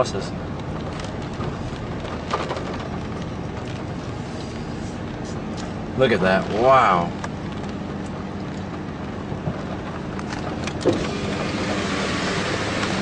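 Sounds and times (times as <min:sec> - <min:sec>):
car rumble from inside cabin: 0:00.0 - 0:13.0
wind hissing against car: 0:00.0 - 0:13.0.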